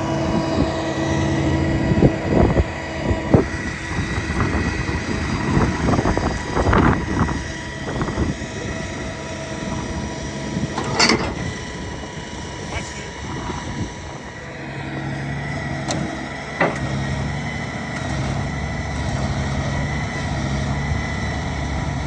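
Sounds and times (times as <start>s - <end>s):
knocks and thumps of plow: 0.0s - 22.0s
truck engine running: 0.0s - 22.0s.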